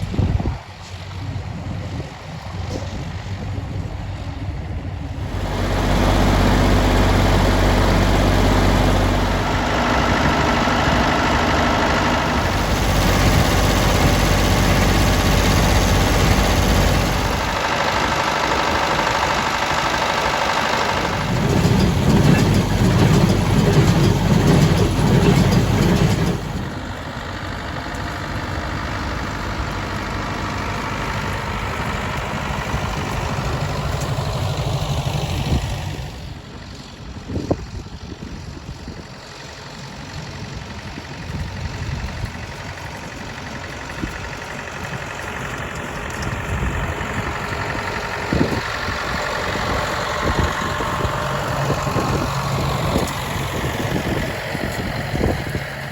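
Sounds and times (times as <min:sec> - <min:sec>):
tractor engines running: 0:00.0 - 0:55.9.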